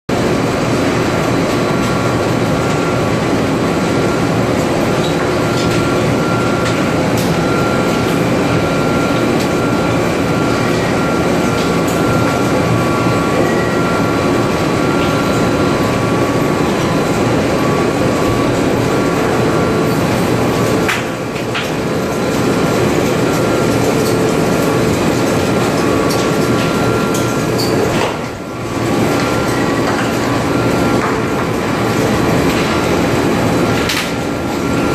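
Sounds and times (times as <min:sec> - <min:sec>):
rubber mill machine rumble: 0:00.1 - 0:34.9.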